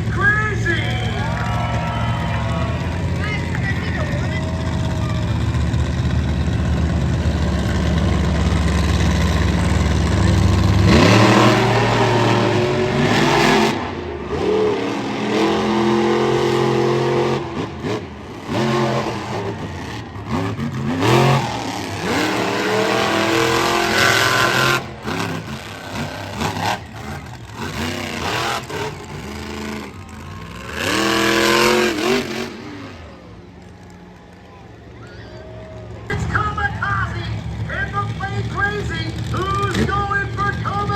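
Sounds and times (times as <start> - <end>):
monster truck engine revving: 0.0 - 40.9.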